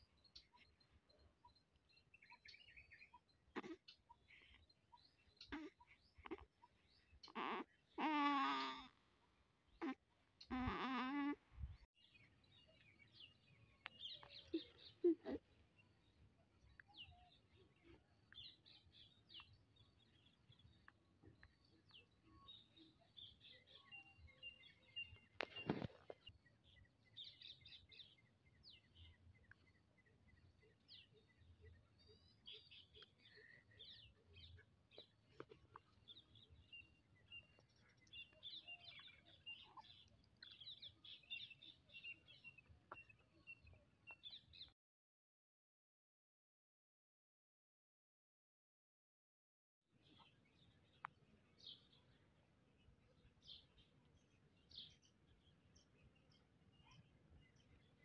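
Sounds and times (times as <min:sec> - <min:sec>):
faint bird chirping: 0:00.0 - 0:44.8, 0:50.0 - 0:58.0.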